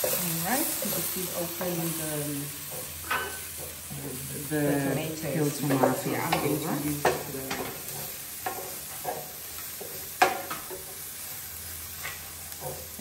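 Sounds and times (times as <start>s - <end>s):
onions sizzling in a pot: 0.0s - 13.0s.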